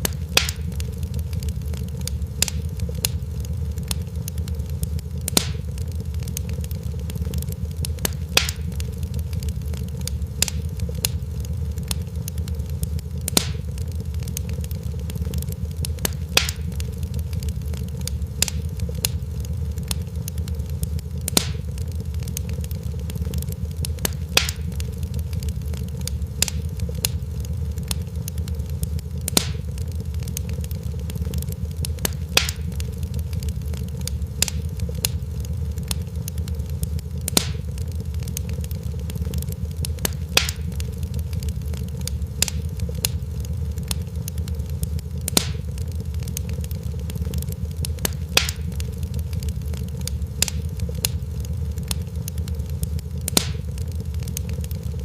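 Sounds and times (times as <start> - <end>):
fire crackling and popping: 0.0 - 55.0
steady low rumble: 0.0 - 55.0.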